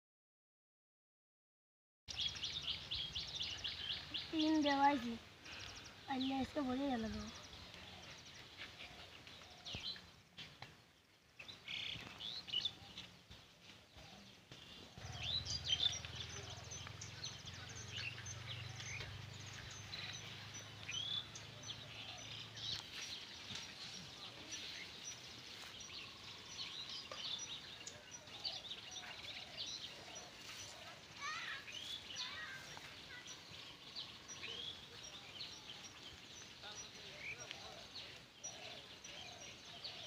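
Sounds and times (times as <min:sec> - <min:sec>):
birds chirping: 0:02.1 - 0:40.0.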